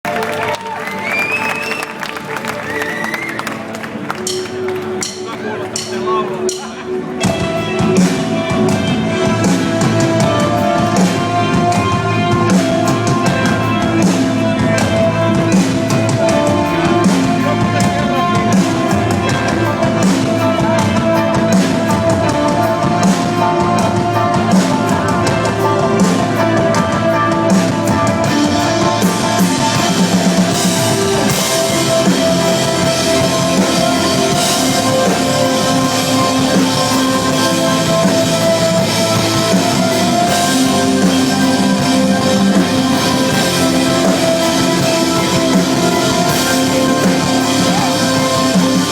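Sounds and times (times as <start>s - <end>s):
drum kit: 0.0s - 48.9s
electric guitars: 0.1s - 48.9s
cymbals: 6.5s - 48.9s.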